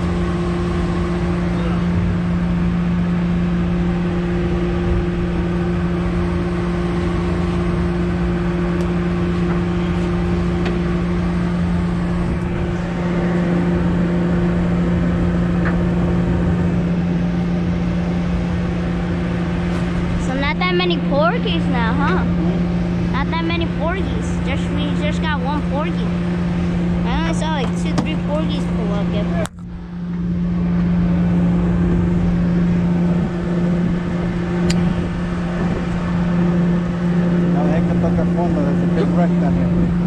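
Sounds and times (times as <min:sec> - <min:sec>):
boat engine humming: 0:00.0 - 0:40.0.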